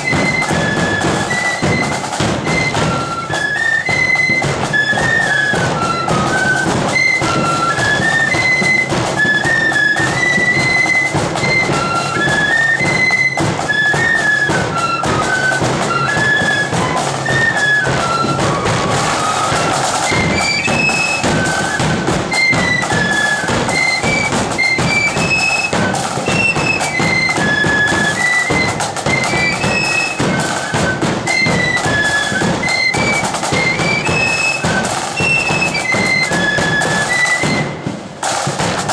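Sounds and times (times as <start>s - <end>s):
flute band playing: 0.0s - 38.9s.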